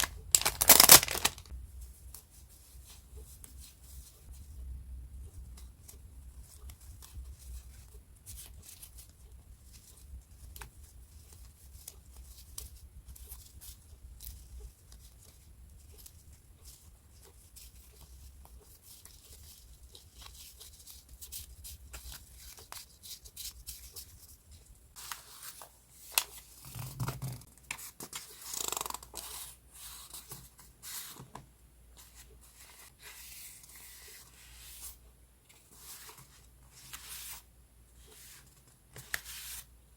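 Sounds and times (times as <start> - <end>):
paper rustling and crinkling: 0.0 - 4.4, 5.6 - 31.4, 32.0 - 39.7.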